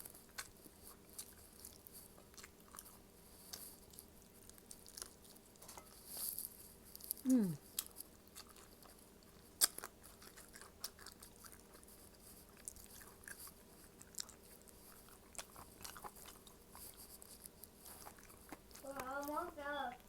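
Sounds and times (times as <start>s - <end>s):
chewing and biting food: 0.0s - 20.0s.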